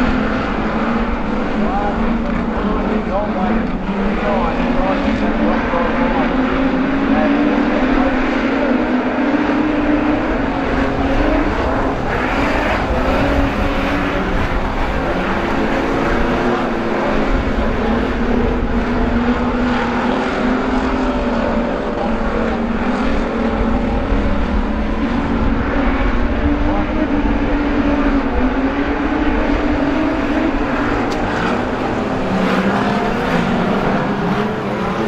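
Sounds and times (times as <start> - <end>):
race car engines running hard: 0.0 - 35.0.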